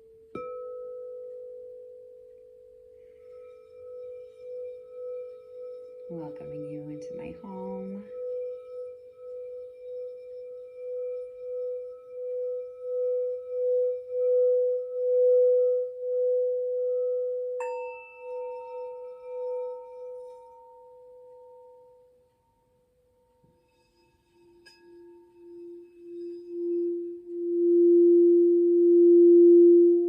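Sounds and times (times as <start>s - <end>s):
higher bell-like tone: 0.0s - 22.2s, 23.5s - 30.0s
singing bowl ringing tone: 0.0s - 30.0s.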